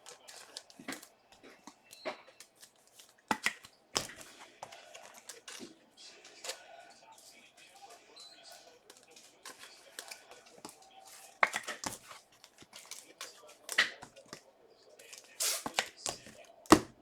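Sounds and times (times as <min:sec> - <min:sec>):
cards rustling and crinkling: 0:00.0 - 0:17.0.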